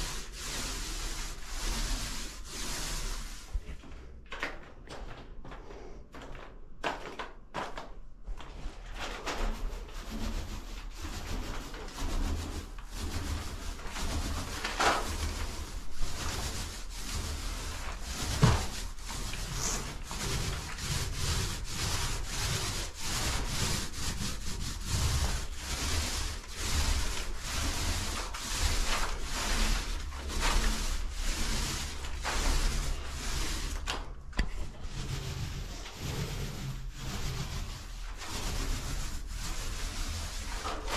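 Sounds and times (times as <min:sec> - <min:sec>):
paint roller swishing on wall: 0:00.0 - 0:40.9.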